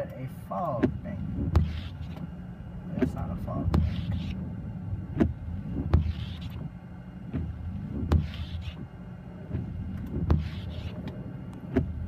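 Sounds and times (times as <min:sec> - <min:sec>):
car engine hum: 0:00.0 - 0:12.0
windshield wipers knocking and swishing: 0:00.0 - 0:12.0.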